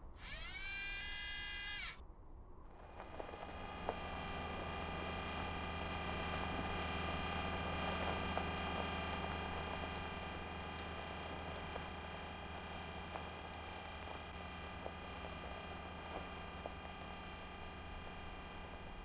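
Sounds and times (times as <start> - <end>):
mechanical motor hum: 0.0 - 2.0, 2.6 - 19.0.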